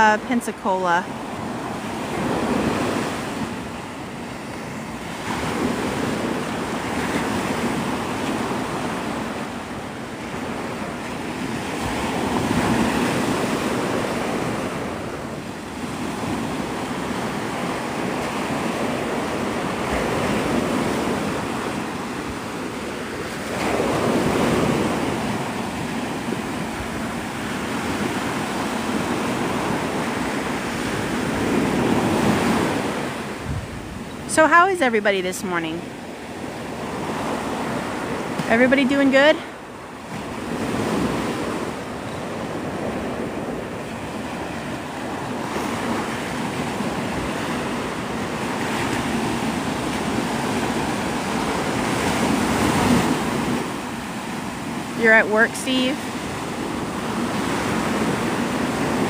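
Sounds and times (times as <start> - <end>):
surf breaking on beach: 0.0 - 59.0
wind buffeting microphone: 1.1 - 59.0.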